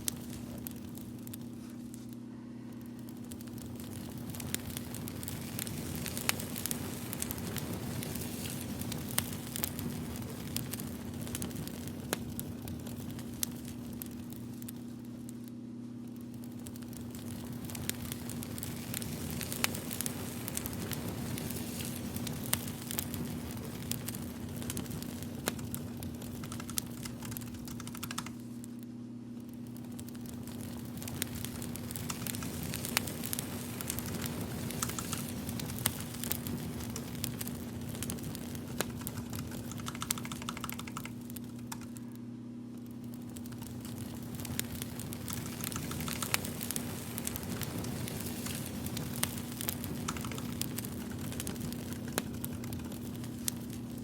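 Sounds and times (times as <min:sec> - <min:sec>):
crackling fire: 0:00.0 - 0:54.0.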